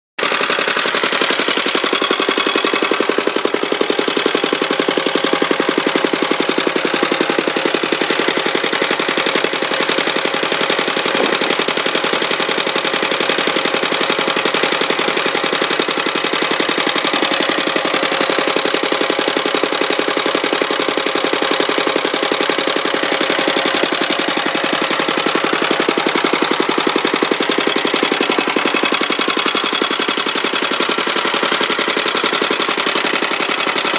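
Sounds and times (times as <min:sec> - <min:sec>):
stationary engine running: 0:00.2 - 0:33.9.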